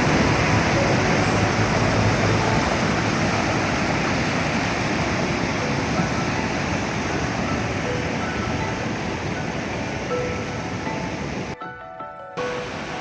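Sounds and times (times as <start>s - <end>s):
stream rushing over boulders: 0.0s - 11.6s, 12.4s - 13.0s.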